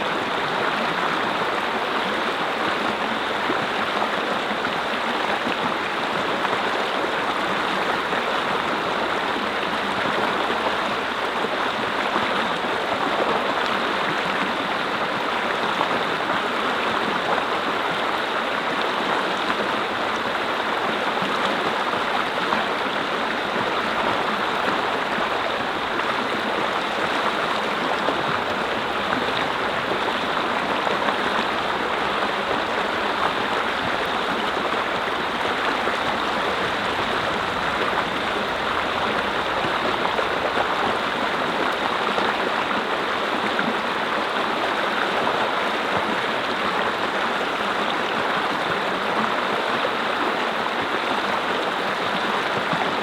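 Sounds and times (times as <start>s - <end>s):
stream babbling over rocks: 0.0s - 53.0s.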